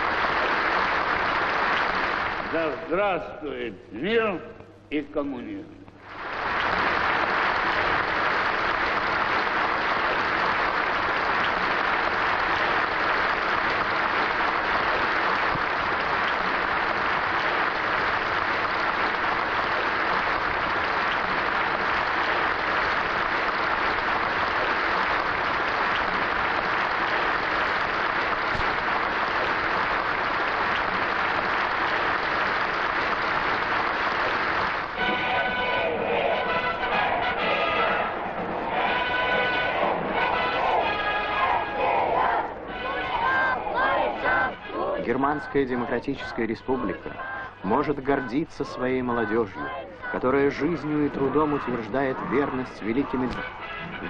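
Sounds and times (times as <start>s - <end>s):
large audience applauding: 0.0s - 3.3s, 6.0s - 54.0s
band music with brass: 6.2s - 49.3s, 50.2s - 54.0s.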